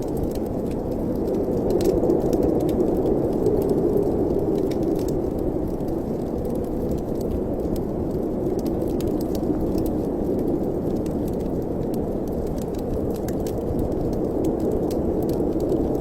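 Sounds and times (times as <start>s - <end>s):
fireplace fire crackling: 0.0s - 16.0s
low rush of wind: 0.0s - 16.0s.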